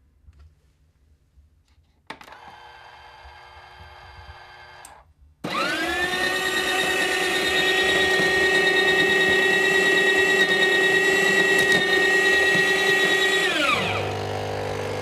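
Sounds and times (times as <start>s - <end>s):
coffee grinder motor whining: 2.3s - 15.0s.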